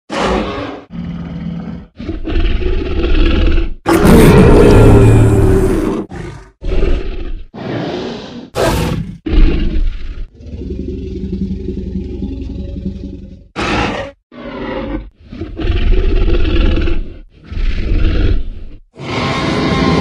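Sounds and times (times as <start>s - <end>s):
dinosaur roars and growls: 0.1s - 20.0s.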